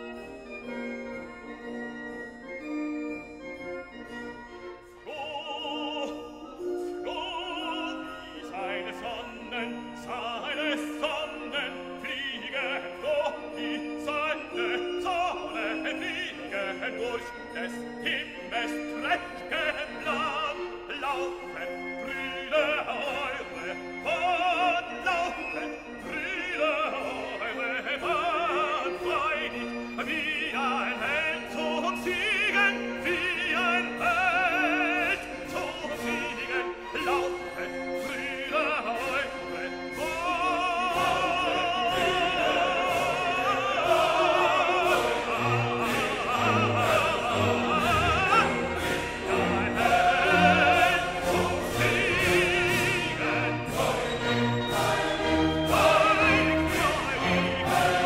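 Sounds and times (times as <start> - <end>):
orchestral notes: 0.0 - 58.0
operatic singing with vibrato: 3.2 - 58.0.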